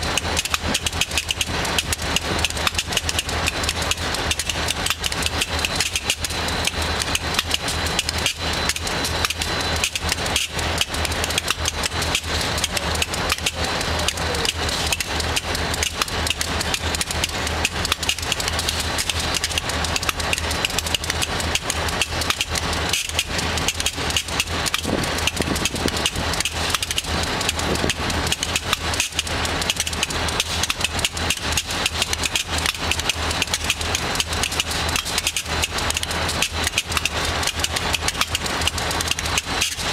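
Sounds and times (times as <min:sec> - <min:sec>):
locomotive idling: 0:00.0 - 0:39.9.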